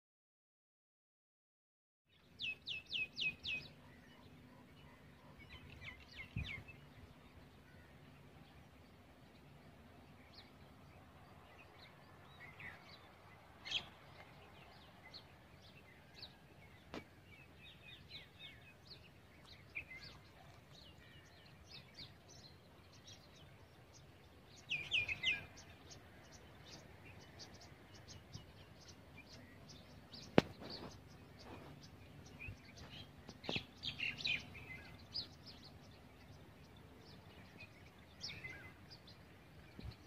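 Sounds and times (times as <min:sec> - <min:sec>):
small birds chirping: 0:02.1 - 0:40.0
faint outdoor rumble: 0:03.6 - 0:40.0.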